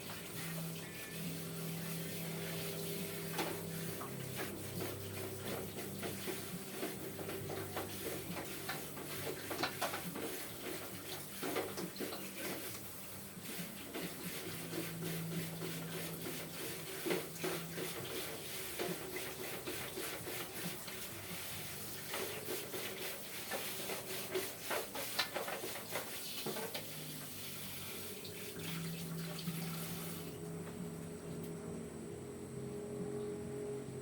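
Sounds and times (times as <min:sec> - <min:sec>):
water running and splashing: 0:00.0 - 0:30.6.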